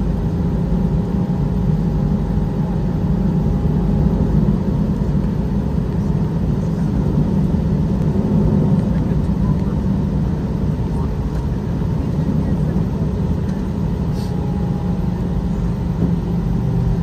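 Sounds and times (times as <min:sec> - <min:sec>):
jet engine cabin rumble: 0:00.0 - 0:17.0.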